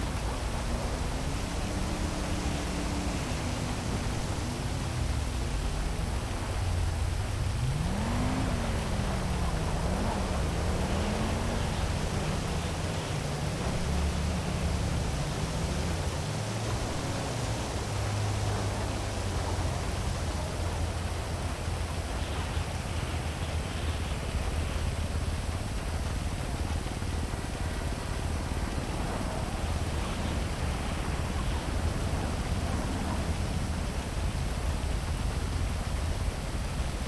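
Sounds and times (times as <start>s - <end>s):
heavy rain hissing: 0.0s - 37.0s
low rumble of city traffic: 0.0s - 37.0s.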